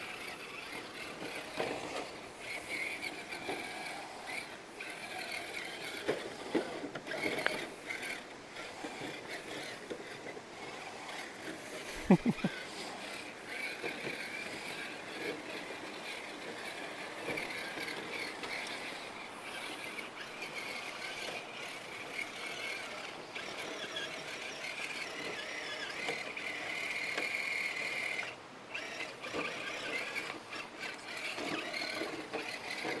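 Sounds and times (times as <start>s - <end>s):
electric motor and gears whining: 0.0s - 33.0s.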